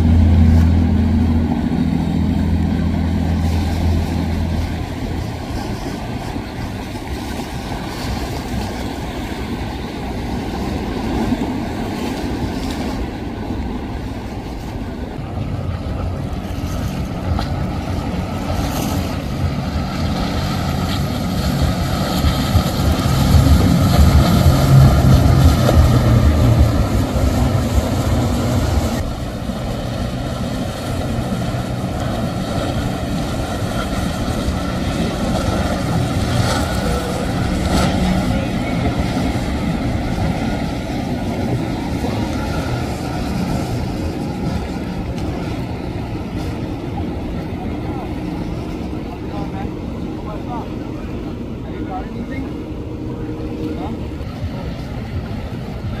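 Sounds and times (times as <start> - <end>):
motorboat engines humming: 0.0 - 56.0.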